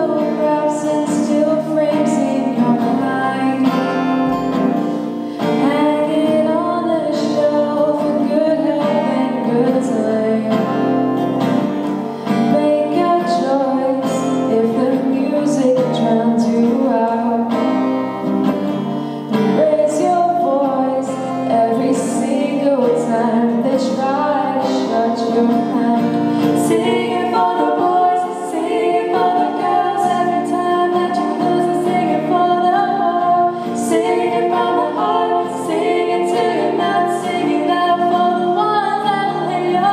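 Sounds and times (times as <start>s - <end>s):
woman singing: 0.0s - 4.6s, 5.4s - 11.1s, 12.4s - 17.8s, 19.4s - 39.9s
strummed acoustic guitar: 0.0s - 39.9s.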